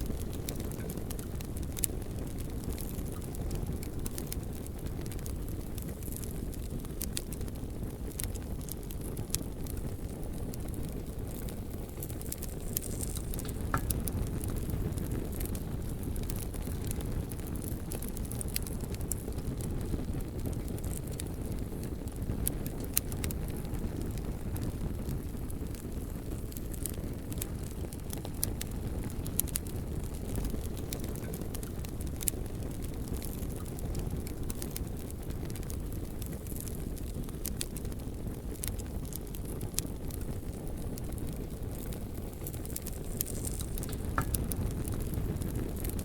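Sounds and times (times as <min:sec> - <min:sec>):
bonfire crackling and popping: 0:00.0 - 0:46.0.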